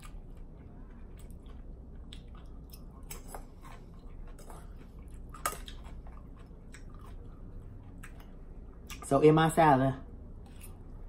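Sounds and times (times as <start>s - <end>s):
chewing salad: 0.0s - 9.5s, 10.2s - 11.0s.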